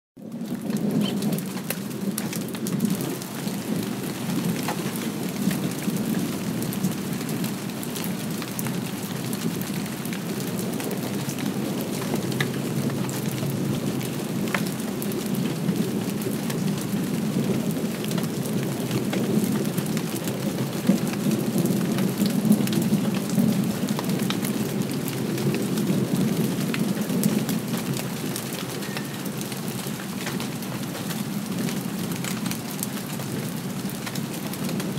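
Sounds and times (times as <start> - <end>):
distant thunder rumbling: 0.2 - 34.9
steady light rain: 0.2 - 34.9
raindrop ticks: 0.6 - 7.0, 10.1 - 15.6, 17.4 - 34.9.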